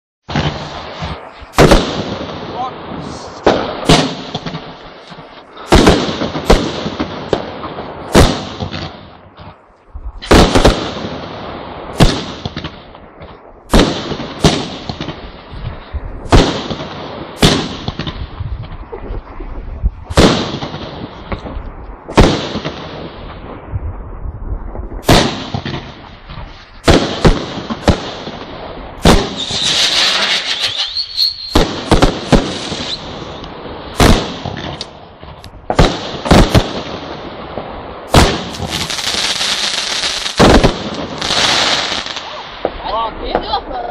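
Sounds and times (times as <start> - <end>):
firework bangs: 0.3 - 43.9
firework crackling: 0.3 - 43.9.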